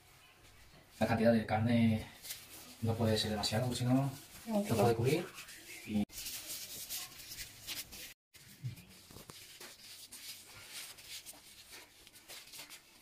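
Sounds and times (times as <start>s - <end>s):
plastic gloves crinkling: 2.1s - 13.0s.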